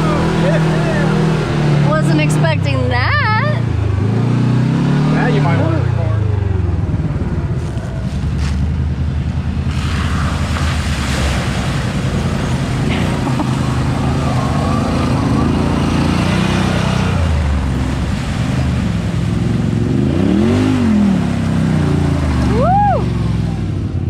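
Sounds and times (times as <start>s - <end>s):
utility vehicle engine revving: 0.0s - 24.0s.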